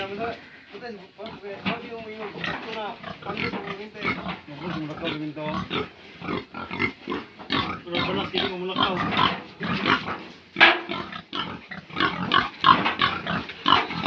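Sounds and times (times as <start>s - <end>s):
pigs grunting and crying: 1.1s - 14.0s.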